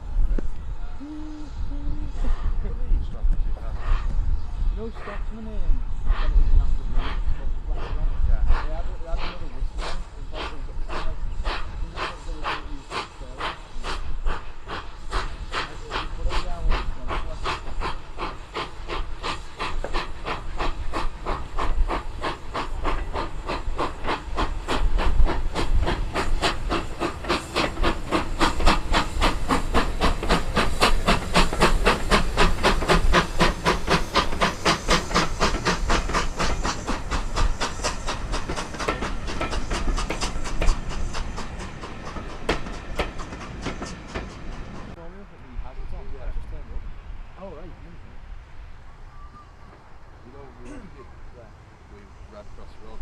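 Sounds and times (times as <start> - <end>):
steam hiss: 0.0 - 53.0
steam locomotive exhaust beats: 0.0 - 53.0.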